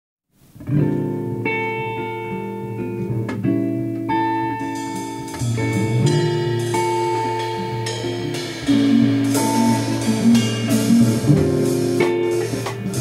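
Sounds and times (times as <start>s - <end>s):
jazz guitar chords: 0.4s - 13.0s.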